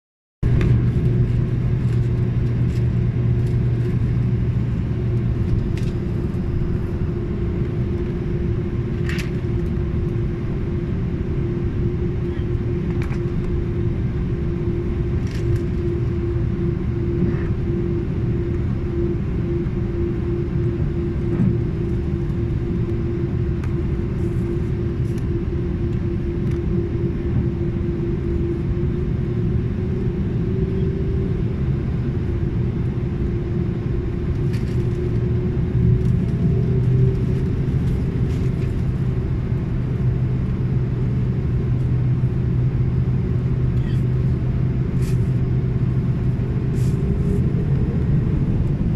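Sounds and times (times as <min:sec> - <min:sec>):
deep drone: 0:00.4 - 0:48.9
jet engines rumbling in cabin: 0:00.4 - 0:48.9.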